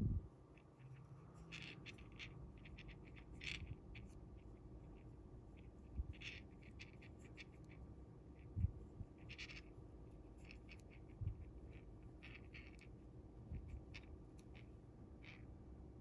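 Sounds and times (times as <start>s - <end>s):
fingers rustling fishing line: 0.6s - 15.5s.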